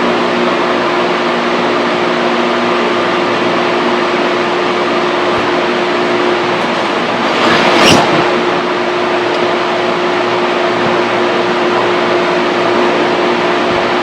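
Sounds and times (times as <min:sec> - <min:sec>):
fan whirring: 0:00.0 - 0:14.0.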